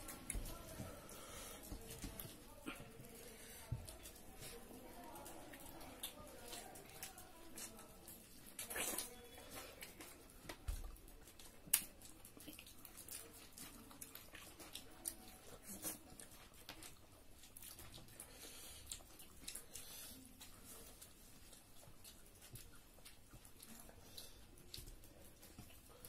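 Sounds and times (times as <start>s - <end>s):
chewing and lip smacking: 0.0s - 26.0s.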